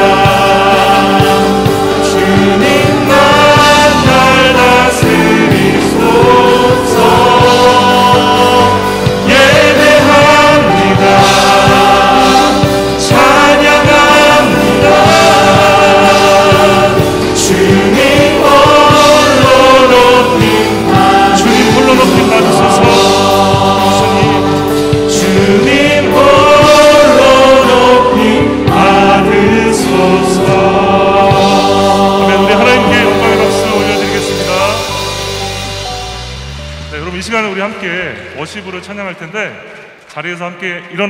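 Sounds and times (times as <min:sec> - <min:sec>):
voices singing together: 0:00.0 - 0:35.6
drums: 0:00.0 - 0:40.2
keyboard: 0:00.0 - 0:41.0.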